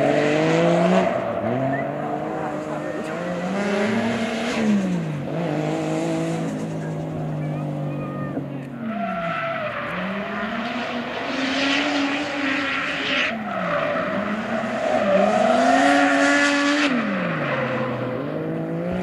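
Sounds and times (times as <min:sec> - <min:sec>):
car engine revving high: 0:00.0 - 0:19.0.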